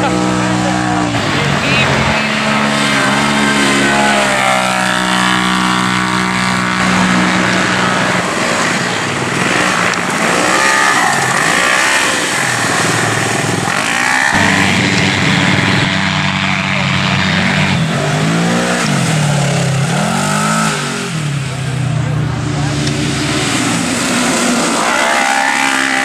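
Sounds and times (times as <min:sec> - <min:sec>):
lower steady engine note: 0:00.0 - 0:26.0
race engines revving: 0:00.0 - 0:26.0.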